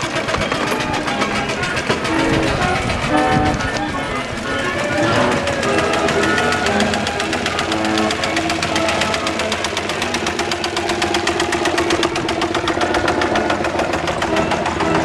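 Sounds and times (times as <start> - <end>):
steam engine exhaust beating: 0.0 - 15.0.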